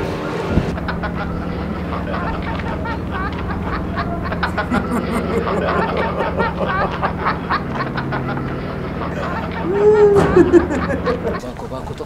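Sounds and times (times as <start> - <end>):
steady low hum: 0.1 - 11.6
man laughing: 1.2 - 11.5.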